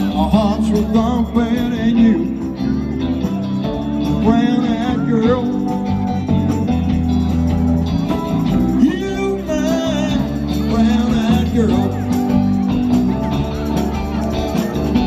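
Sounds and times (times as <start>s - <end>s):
live band playing music: 0.0s - 15.0s.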